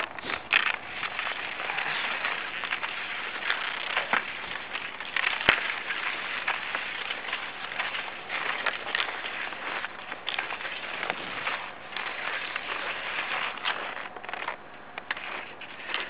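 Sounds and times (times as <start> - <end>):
skis scraping over packed snow: 0.0 - 16.0.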